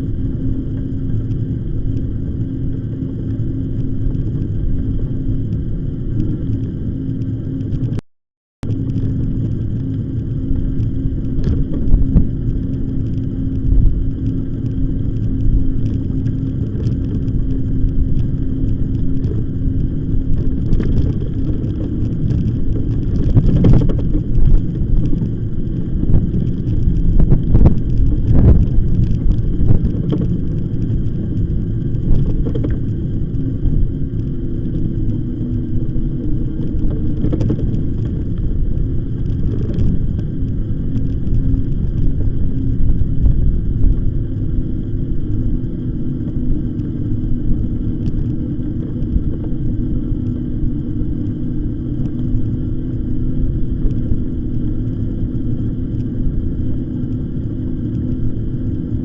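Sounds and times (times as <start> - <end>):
steady motor hum: 0.0 - 8.0, 8.6 - 59.0
wind rumble on microphone: 0.0 - 8.0, 8.6 - 59.0
bicycle tyre noise on path: 8.6 - 59.0.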